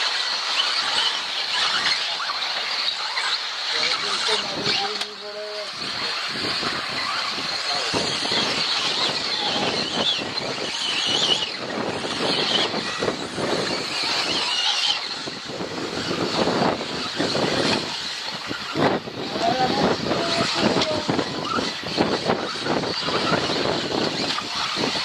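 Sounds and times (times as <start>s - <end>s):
rc cars electric motors whining: 0.0s - 25.0s.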